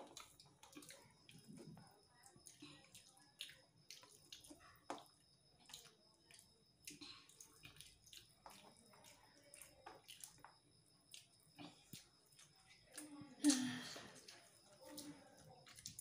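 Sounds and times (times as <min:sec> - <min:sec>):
chewing smacks: 0:00.0 - 0:16.0.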